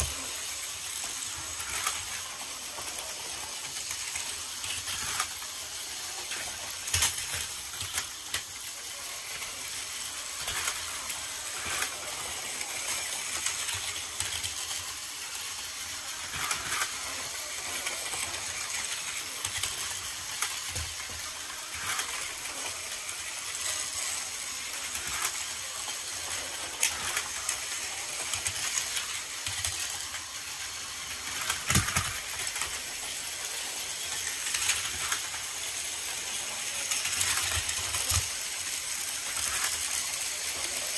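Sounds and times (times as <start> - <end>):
toy train motors whirring: 0.0 - 40.9.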